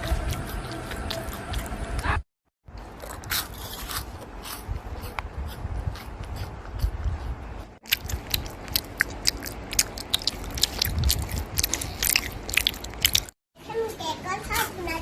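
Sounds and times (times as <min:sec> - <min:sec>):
person chewing crunchy food: 0:00.0 - 0:02.2, 0:02.8 - 0:13.4.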